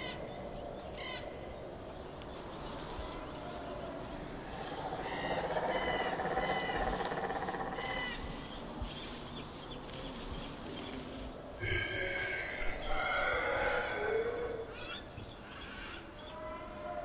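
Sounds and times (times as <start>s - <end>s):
forest background: 0.0s - 17.0s.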